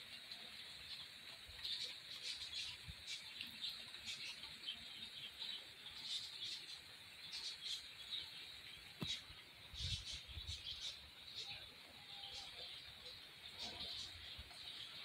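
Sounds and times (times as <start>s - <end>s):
small birds chirping: 0.8s - 15.0s.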